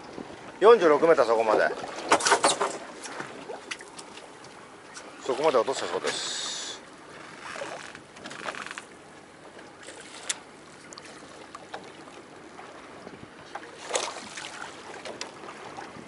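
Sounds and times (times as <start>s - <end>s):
water sloshing against boat hull: 0.0s - 16.0s.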